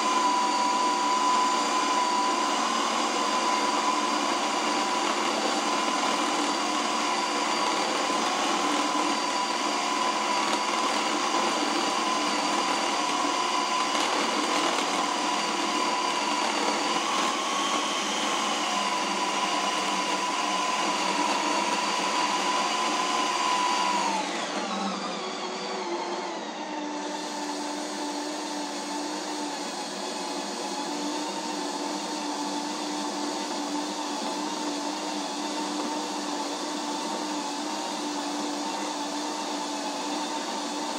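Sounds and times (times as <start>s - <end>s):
ice cream maker motor whining: 0.0s - 40.9s.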